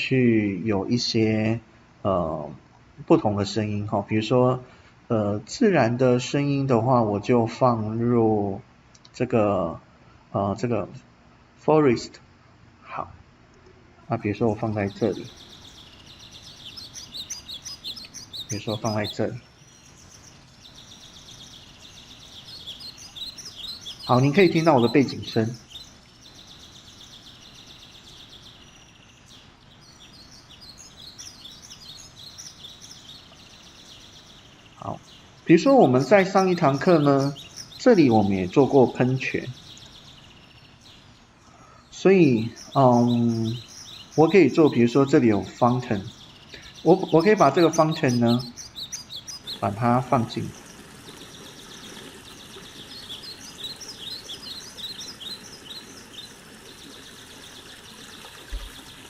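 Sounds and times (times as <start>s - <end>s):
small birds chirping and trilling: 0.0s - 59.0s
soft background hiss: 0.0s - 59.0s.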